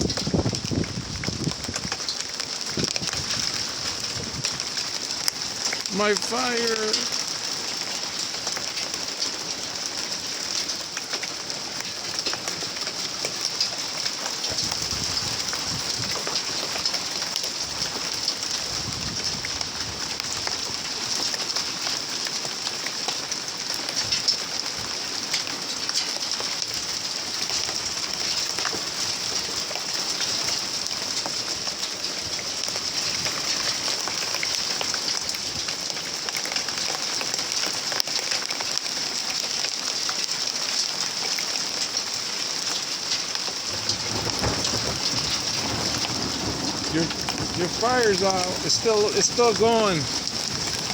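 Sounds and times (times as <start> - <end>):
rain falling: 0.0 - 50.9.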